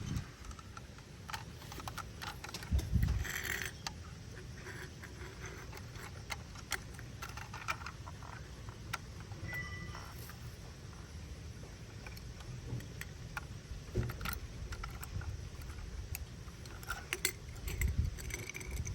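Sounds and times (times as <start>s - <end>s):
plastic toy clicks and knocks: 0.4s - 10.3s, 11.9s - 18.9s.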